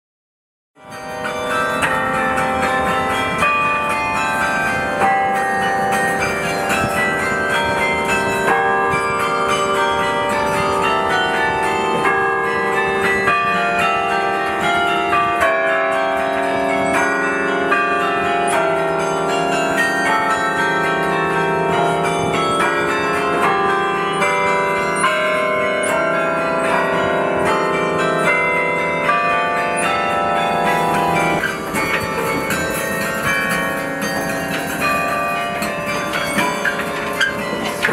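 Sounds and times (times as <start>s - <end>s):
carillon bells playing a tune: 0.8s - 37.9s.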